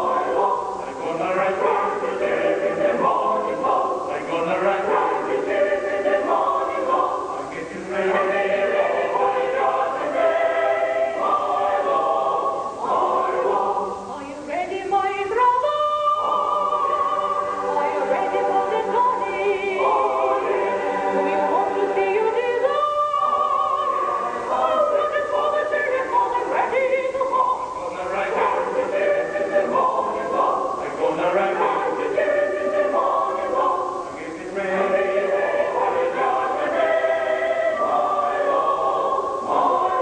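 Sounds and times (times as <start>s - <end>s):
choir singing: 0.0s - 14.2s, 15.0s - 40.0s.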